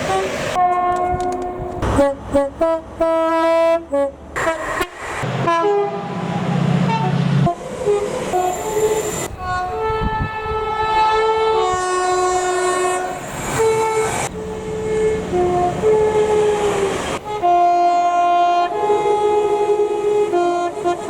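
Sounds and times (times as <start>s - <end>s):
train horn notes: 0.0s - 21.0s.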